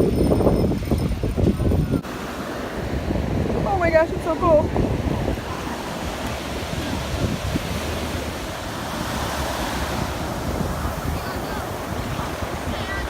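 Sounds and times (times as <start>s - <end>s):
wind buffeting microphone: 0.0s - 13.0s
ocean surf: 0.1s - 13.0s.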